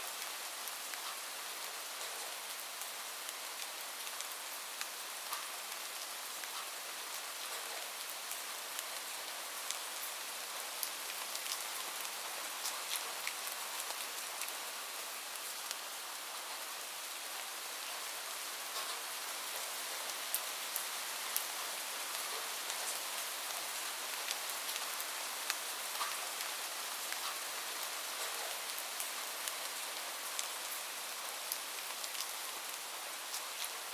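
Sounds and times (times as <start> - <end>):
light rain falling: 0.0 - 33.9
raindrops ticking on a surface: 0.1 - 33.9.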